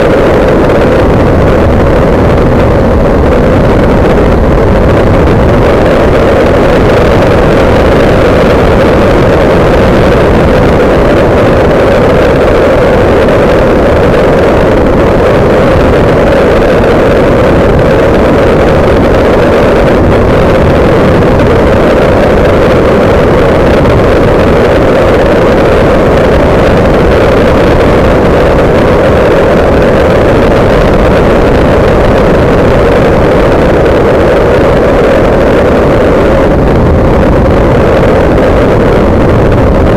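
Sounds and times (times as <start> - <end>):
aircraft engine running loud: 0.0 - 39.9
wind buffeting microphone: 0.0 - 39.9.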